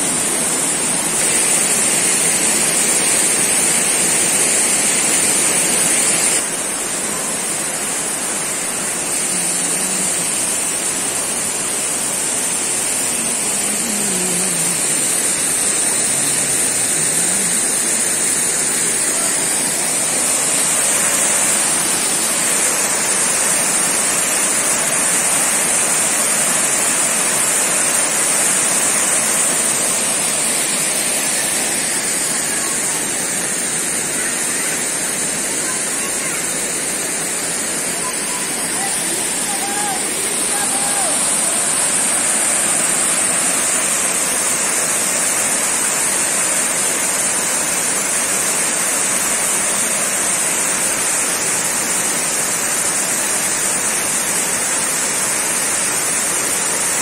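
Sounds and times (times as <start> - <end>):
waterfall roaring over rock: 0.0 - 57.0.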